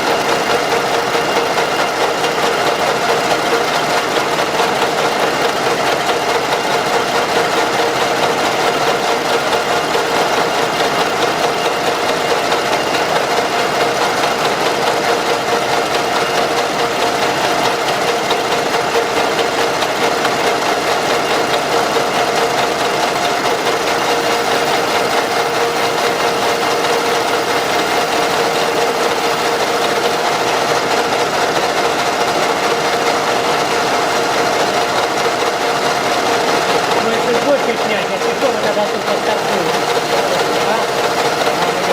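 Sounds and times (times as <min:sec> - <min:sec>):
electric motor running steadily: 0:00.0 - 0:41.9.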